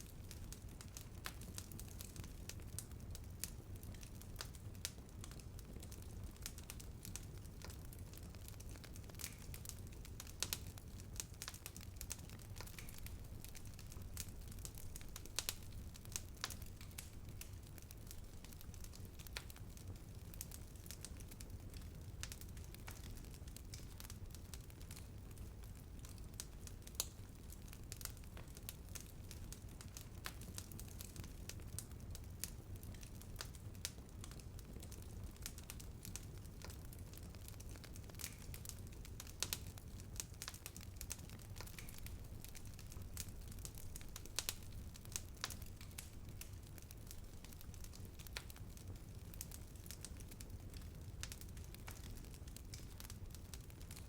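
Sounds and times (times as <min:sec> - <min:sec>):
fire crackles and pops: 0:00.0 - 0:54.0
wood fire rumbling: 0:00.1 - 0:54.0.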